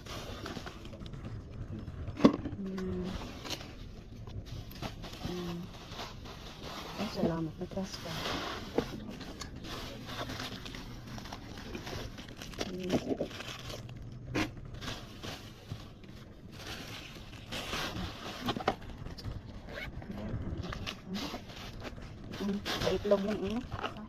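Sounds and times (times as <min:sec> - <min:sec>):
foil balloons rustling: 0:00.0 - 0:24.0
plastic bag crinkling: 0:00.0 - 0:24.0.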